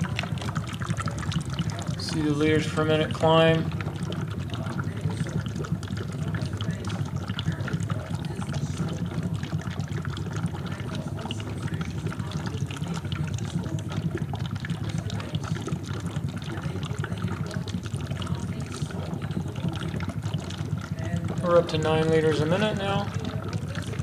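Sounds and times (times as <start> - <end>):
gas bubbling and fizzing in water: 0.0 - 24.0.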